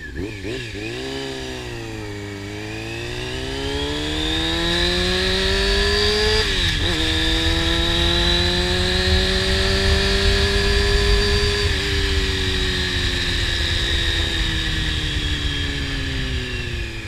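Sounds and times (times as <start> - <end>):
motorcycle accelerating: 0.0 - 17.0
wind rumbling on microphone: 3.1 - 17.0.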